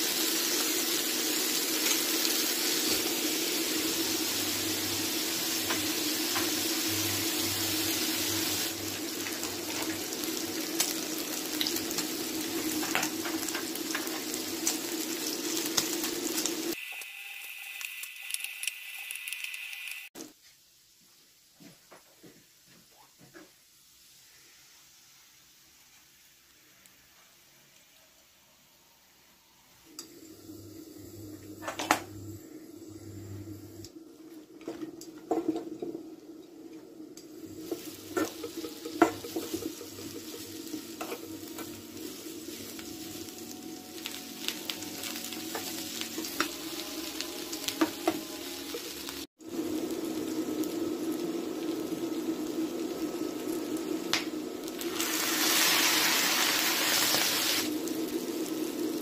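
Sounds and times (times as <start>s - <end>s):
food sizzling in a pan: 0.0s - 21.6s, 22.6s - 59.0s.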